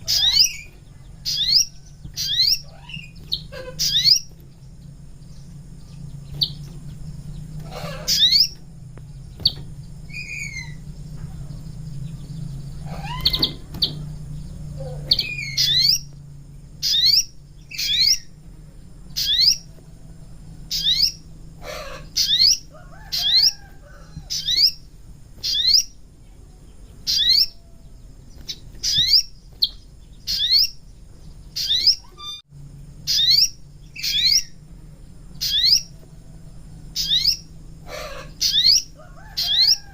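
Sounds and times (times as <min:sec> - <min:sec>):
bird chirping: 0:00.0 - 0:39.9
low hum: 0:00.0 - 0:39.9.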